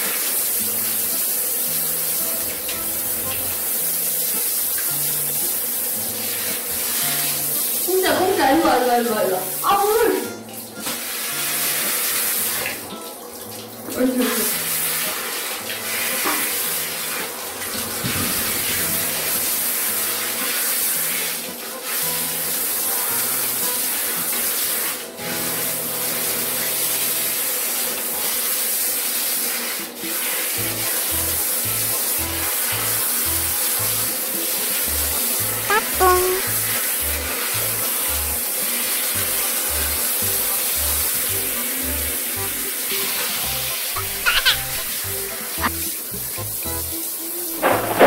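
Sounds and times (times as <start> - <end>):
shower head spraying water: 0.0 - 13.0, 13.6 - 48.0.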